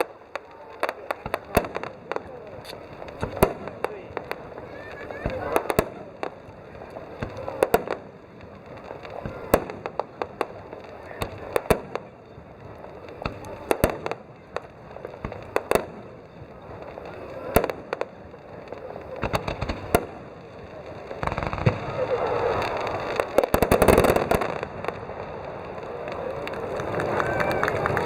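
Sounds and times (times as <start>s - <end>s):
fireworks bursting with bangs: 0.0s - 28.0s.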